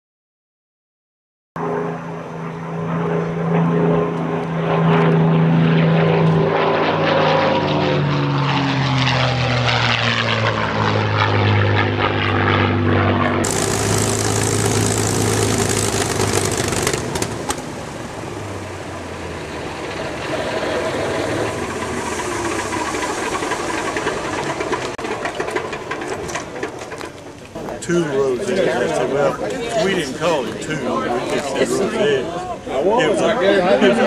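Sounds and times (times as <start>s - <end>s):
aircraft engine running on ground: 1.6s - 34.0s
propeller plane flyby drone: 1.6s - 34.0s.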